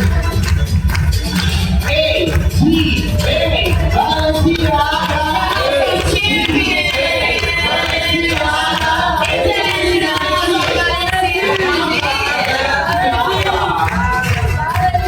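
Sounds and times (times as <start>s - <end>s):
music with low bass: 0.0s - 15.0s
several voices singing: 1.2s - 15.0s.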